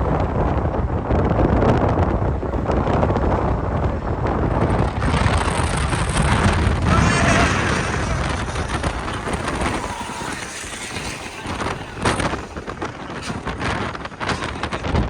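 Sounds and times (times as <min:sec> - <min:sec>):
road vehicle rumble: 0:00.0 - 0:15.0.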